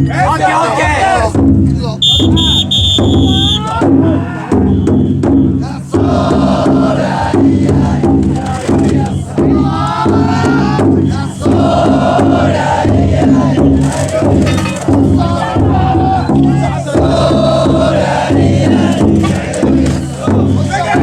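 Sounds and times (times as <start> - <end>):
crowd of men chanting in unison: 0.0 - 2.5, 3.2 - 21.0.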